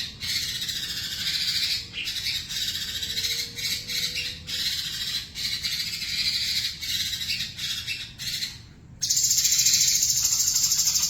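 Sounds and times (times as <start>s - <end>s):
bird singing chirpy song: 0.0s - 11.0s
rapid buzzing bird trill: 0.0s - 11.0s.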